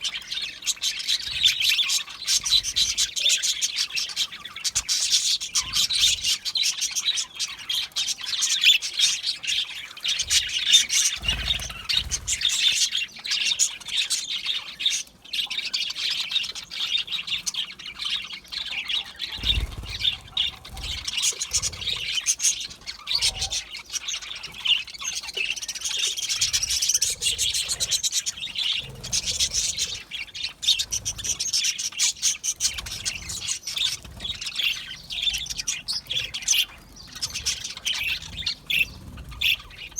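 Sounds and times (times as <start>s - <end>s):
bird squawks: 0.0s - 39.9s
budgerigars chirping: 0.0s - 39.9s.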